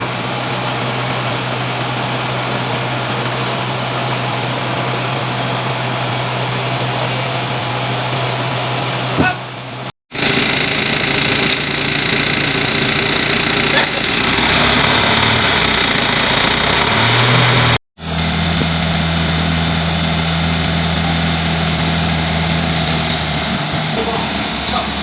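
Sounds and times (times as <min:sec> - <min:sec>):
higher-pitched machine noise: 0:00.0 - 0:25.0
sawmill machinery humming: 0:00.0 - 0:25.0.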